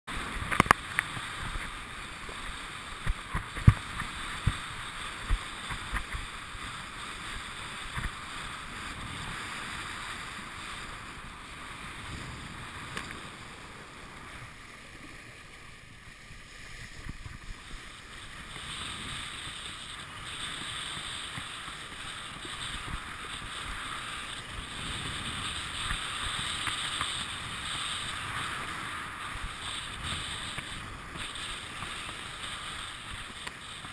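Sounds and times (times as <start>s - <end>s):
rush of wind and water: 0.1s - 33.9s.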